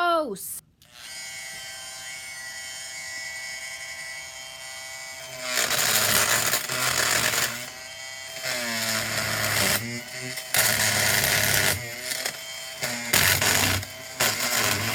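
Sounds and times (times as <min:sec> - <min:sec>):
oscillating multi-tool whining: 0:00.8 - 0:14.9
blade rasping through fabric: 0:00.9 - 0:14.9.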